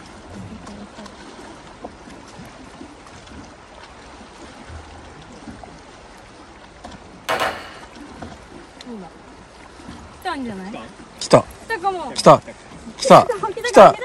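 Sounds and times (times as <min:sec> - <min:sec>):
water lapping against concrete: 0:00.0 - 0:14.0.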